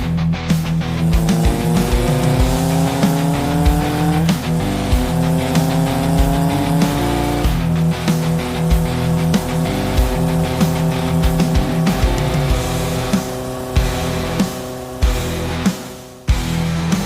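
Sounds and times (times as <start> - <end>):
motorcycle engine accelerating: 0.0 - 17.0
music with a steady beat: 0.0 - 17.0.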